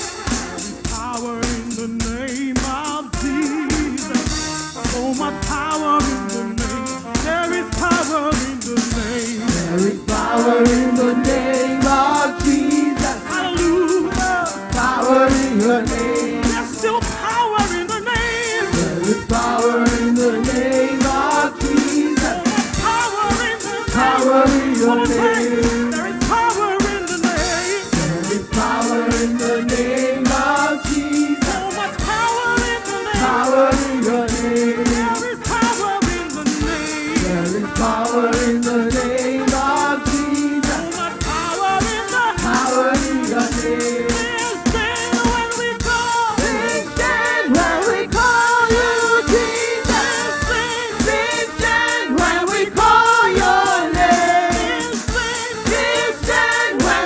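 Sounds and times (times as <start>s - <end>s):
drum kit beat: 0.0s - 57.0s
gospel worship band music: 0.0s - 57.0s
person singing: 0.0s - 57.0s.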